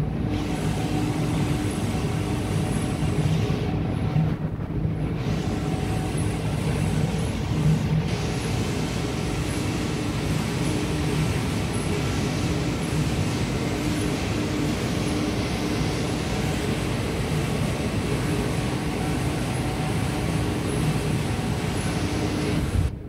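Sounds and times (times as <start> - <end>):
mechanical rumble and hiss: 0.0 - 23.0.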